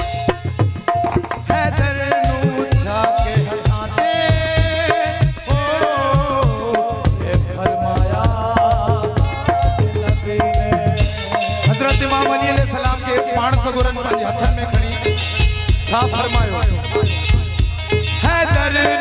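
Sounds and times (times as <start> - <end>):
hand drum rhythm: 0.0 - 19.0
harmonium melody: 0.0 - 19.0.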